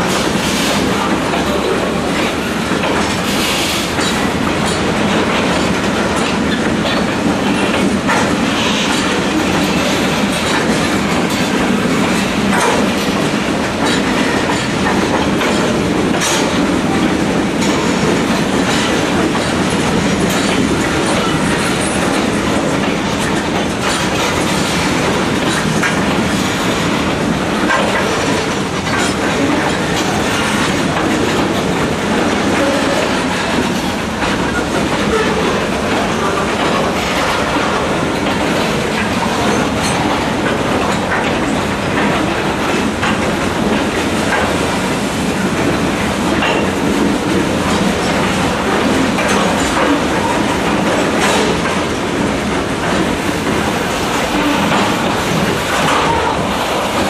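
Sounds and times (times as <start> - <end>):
clickety-clack of rail joints: 0.0 - 57.0
train wheels rumbling on rail: 0.0 - 57.0.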